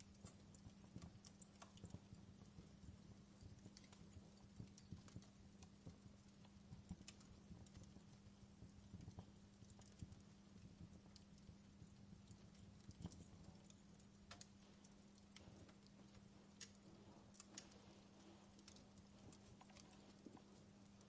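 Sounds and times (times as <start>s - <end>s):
low steady hum: 0.0s - 21.0s
wood fire crackling: 0.0s - 21.0s.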